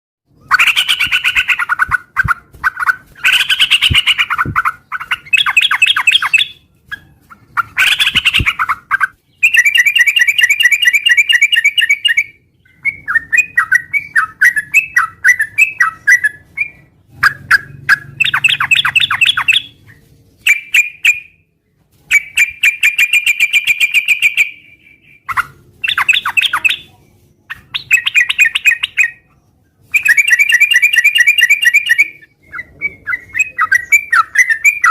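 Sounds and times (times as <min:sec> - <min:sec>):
bird singing chattering phrases: 0:00.4 - 0:21.3, 0:25.3 - 0:34.9.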